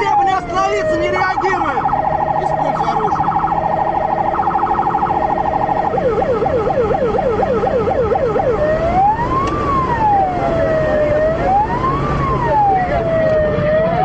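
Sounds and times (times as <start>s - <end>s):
police siren: 0.0s - 14.0s.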